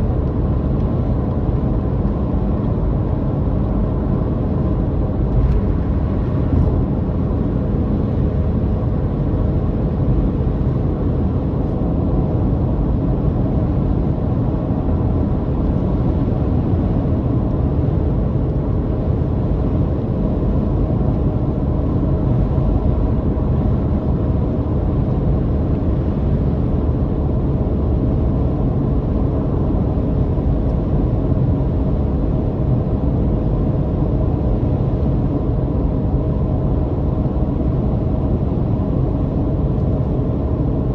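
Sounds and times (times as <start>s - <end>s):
car engine drone: 0.0s - 40.9s
road rumble: 0.0s - 40.9s.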